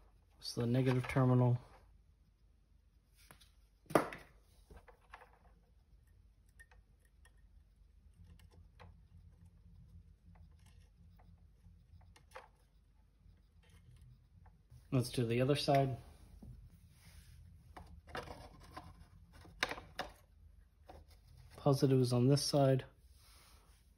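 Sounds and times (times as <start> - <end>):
faint low hum: 4.4 - 23.9.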